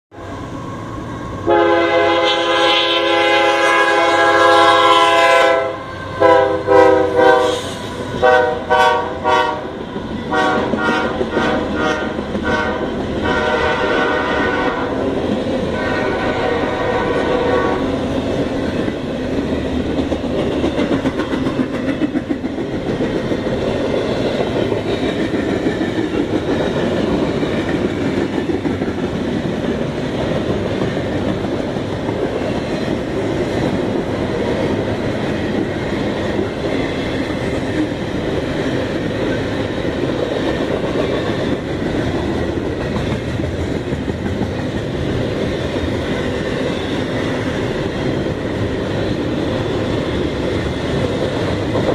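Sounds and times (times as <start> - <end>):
freight train rumbling past: 0.1 - 51.9
train wheels clattering on rails: 6.2 - 51.9.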